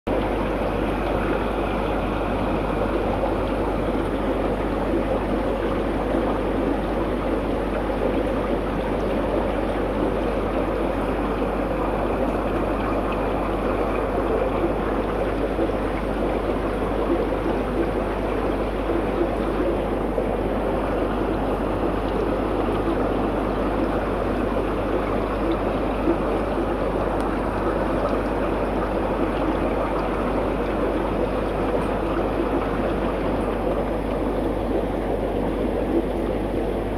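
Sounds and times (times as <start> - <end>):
aquarium water bubbling: 0.1 - 36.9
low steady hum: 0.1 - 36.9.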